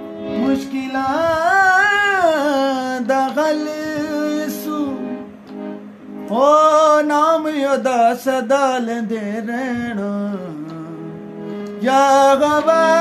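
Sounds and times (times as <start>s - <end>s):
steady held accompaniment: 0.0s - 13.0s
man singing a hymn: 0.3s - 5.3s, 6.3s - 13.0s.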